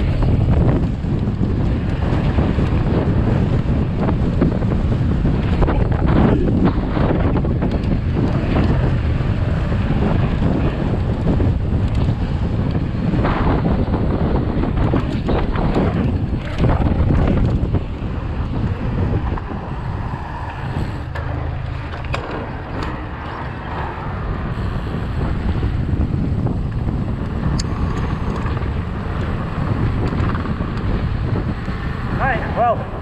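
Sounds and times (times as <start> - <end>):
bike clicks and rattles: 0.0 - 32.3
wind buffeting microphone: 0.0 - 33.0.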